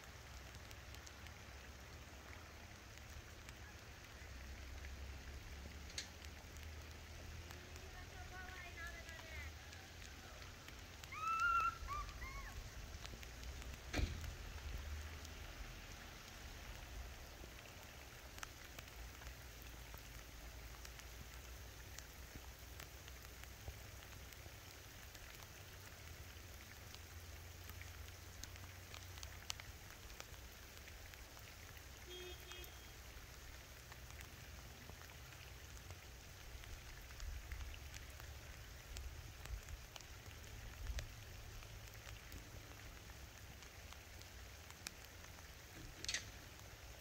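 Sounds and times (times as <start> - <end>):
rain hissing: 0.0 - 47.0
single raindrops ticking: 0.0 - 47.0.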